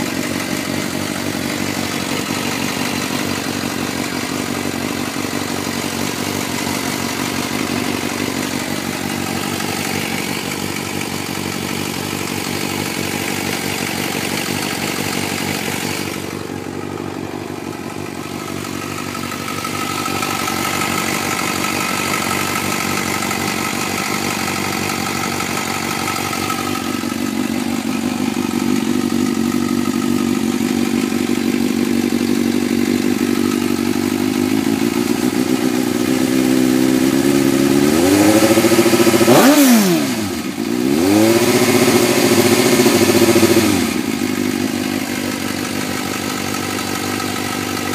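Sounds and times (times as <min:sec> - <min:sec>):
engine ticking: 0:00.0 - 0:47.9
motorcycle engine idling: 0:00.0 - 0:47.9.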